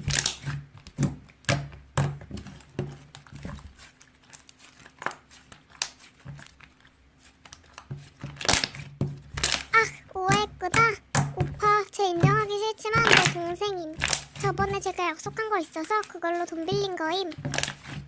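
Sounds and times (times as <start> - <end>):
slime crackling and popping: 0.0 - 18.0.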